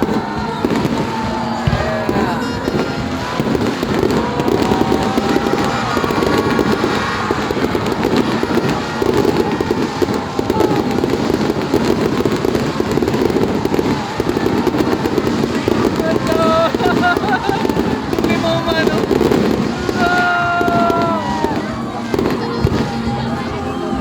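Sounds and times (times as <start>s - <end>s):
fireworks popping and crackling: 0.0s - 24.0s.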